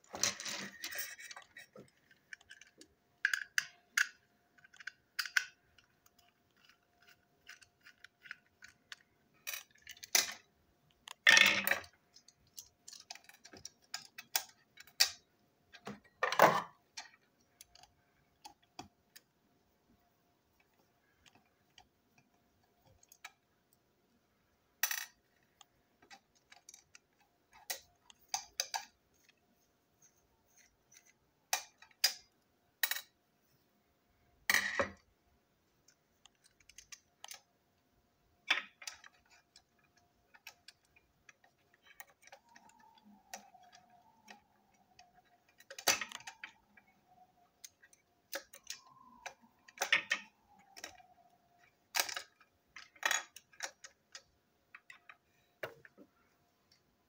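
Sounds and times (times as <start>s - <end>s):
plastic toy parts clicking: 0.1s - 19.3s, 20.6s - 23.8s, 24.8s - 29.4s, 30.5s - 33.2s, 35.8s - 37.5s, 38.5s - 56.0s.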